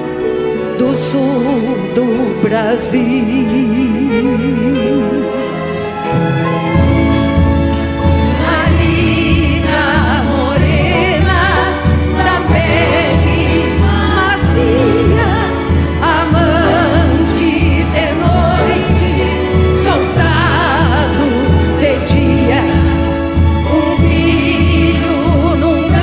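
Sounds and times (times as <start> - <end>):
accordion: 0.0 - 26.0
guitar: 0.0 - 26.0
symphony orchestra: 0.0 - 26.0
women singing with vibrato: 0.8 - 5.5, 8.1 - 26.0.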